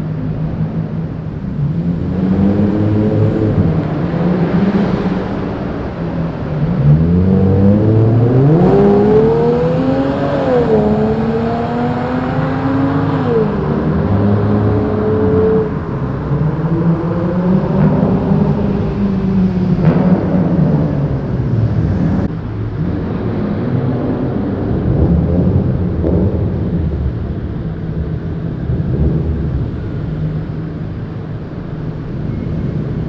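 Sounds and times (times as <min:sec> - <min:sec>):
car engine and exhaust: 0:00.0 - 0:33.0.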